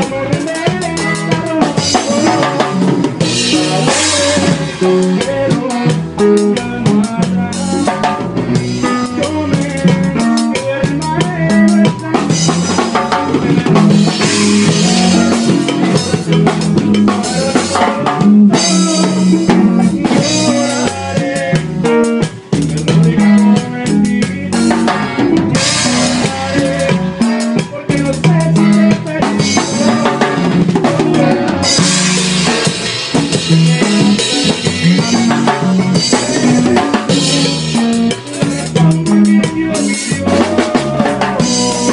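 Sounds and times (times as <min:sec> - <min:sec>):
drum kit beat: 0:00.0 - 0:41.9.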